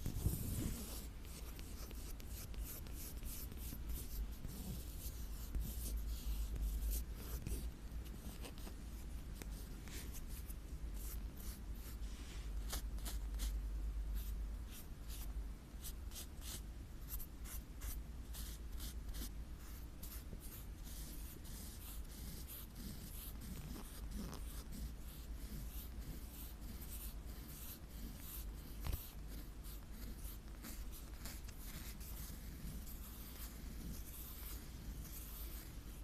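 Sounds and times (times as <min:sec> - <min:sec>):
scratching on a surface: 0:00.0 - 0:13.6, 0:14.2 - 0:36.0
steady low hum: 0:00.0 - 0:36.0.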